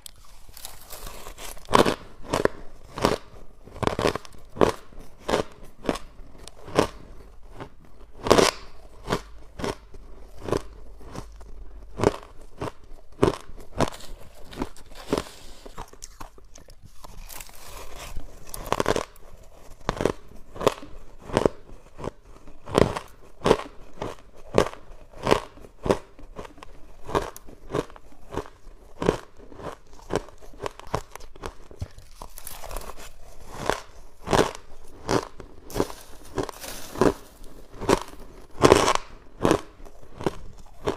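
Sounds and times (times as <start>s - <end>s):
ice crunching being chewed: 0.0s - 40.9s.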